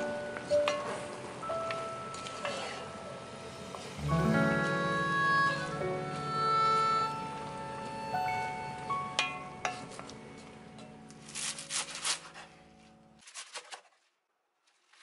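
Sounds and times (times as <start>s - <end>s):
background music: 0.0s - 13.2s.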